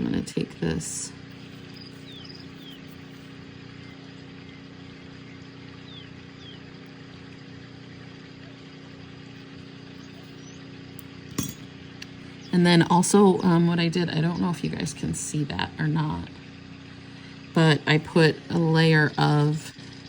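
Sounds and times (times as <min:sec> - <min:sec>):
fan or motor hum: 0:00.0 - 0:20.0.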